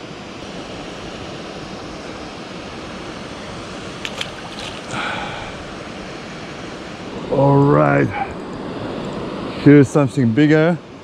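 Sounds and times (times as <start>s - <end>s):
steady outdoor rushing noise: 0.1s - 11.0s.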